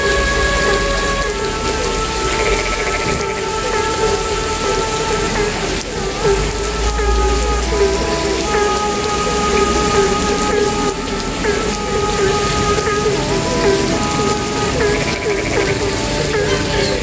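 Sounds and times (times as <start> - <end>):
constant hiss: 0.0 - 17.0
frogs calling: 0.0 - 17.0.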